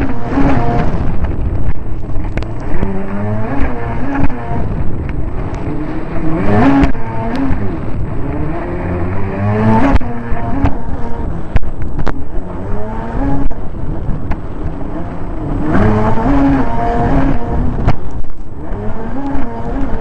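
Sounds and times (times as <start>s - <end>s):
hull slapping water: 0.0s - 20.0s
jet ski engine revving: 0.0s - 20.0s
rushing water: 0.0s - 20.0s
wind: 0.0s - 20.0s.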